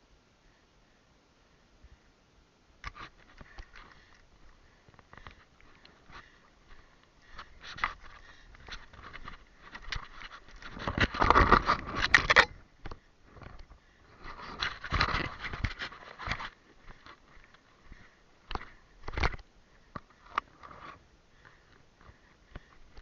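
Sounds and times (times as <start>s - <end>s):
rustling and scraping near microphone: 2.8s - 23.0s
small clicks and crackles: 2.8s - 23.0s.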